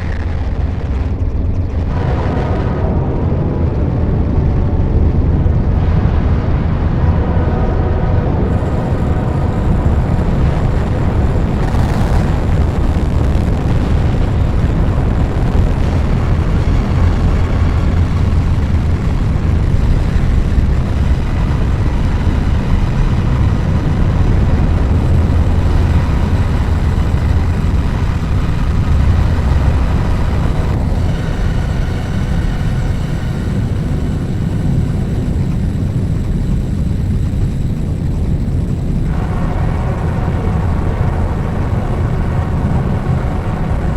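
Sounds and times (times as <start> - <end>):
low rumbling noise drone: 0.0 - 43.9.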